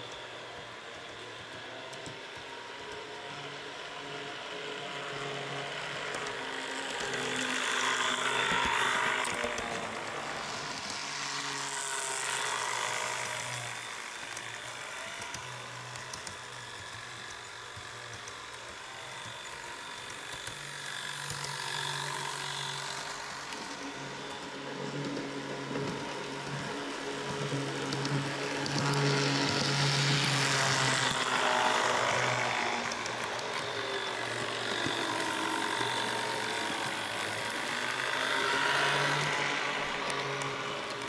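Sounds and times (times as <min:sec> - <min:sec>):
small electric motor whirring: 0:00.0 - 0:41.0
wheels rattling over rails: 0:05.4 - 0:41.0.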